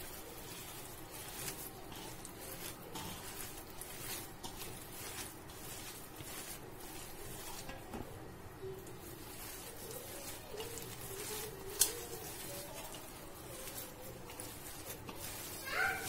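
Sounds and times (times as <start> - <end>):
hands squishing food in a bowl: 0.0 - 16.0.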